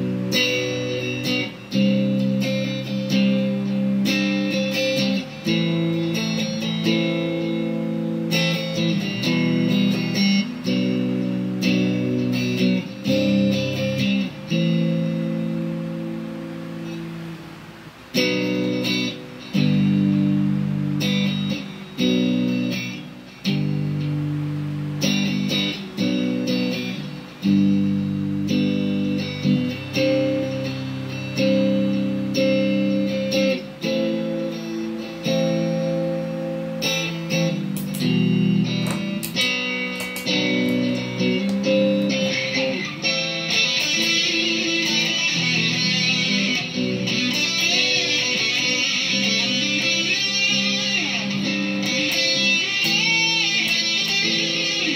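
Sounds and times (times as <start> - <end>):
overdriven electric guitar chords: 0.0 - 54.9.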